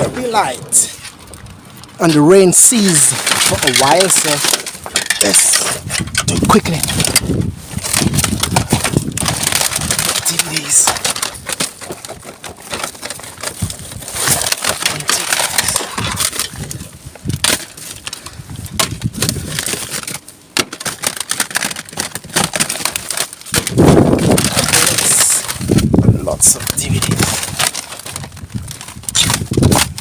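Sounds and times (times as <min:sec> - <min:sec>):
plastic cases clattering: 0:00.0 - 0:30.0
rustling: 0:00.0 - 0:30.0.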